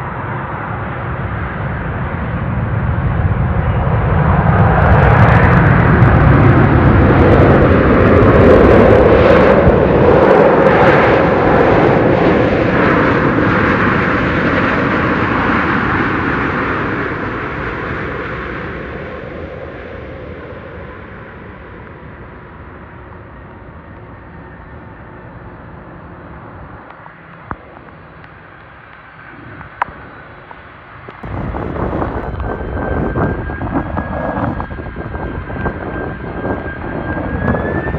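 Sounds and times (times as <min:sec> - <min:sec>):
airliner engine roar passing: 0:00.0 - 0:37.9.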